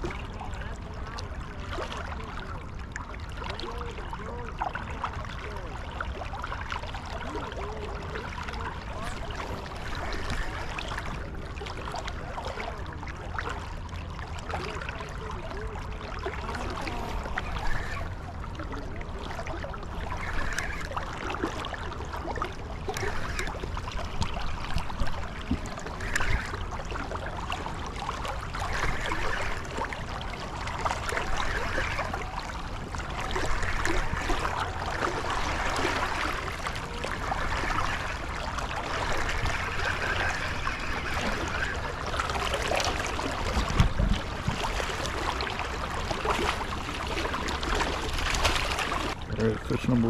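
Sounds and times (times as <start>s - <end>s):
constant low rumble: 0.0s - 50.0s
river current flowing: 0.0s - 50.0s.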